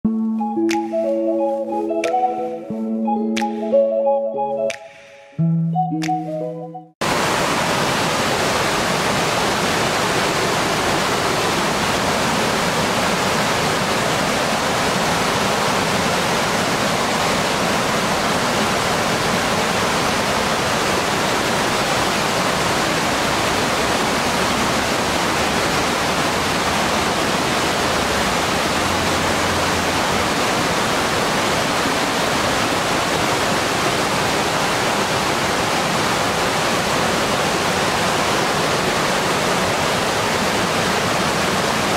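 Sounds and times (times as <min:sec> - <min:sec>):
waterfall rushing over rocks: 0:07.0 - 0:41.9.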